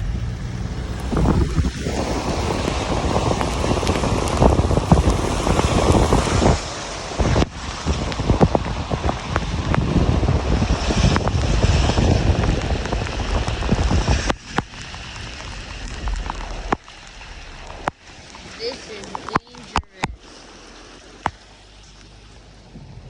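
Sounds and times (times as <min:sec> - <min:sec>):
heavy rain: 0:00.0 - 0:23.0
raindrops tapping microphone: 0:00.0 - 0:23.0
wind rumbling on microphone: 0:00.0 - 0:23.0.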